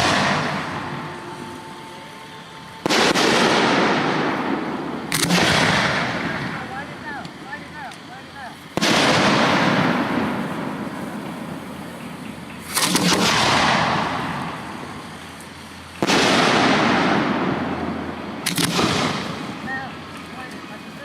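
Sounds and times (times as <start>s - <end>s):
firework shells bursting: 0.0s - 20.8s.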